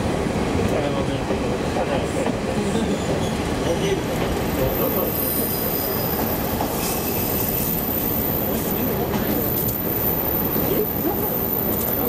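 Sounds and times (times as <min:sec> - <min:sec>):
railcar engine and wheels rumbling: 0:00.0 - 0:12.0.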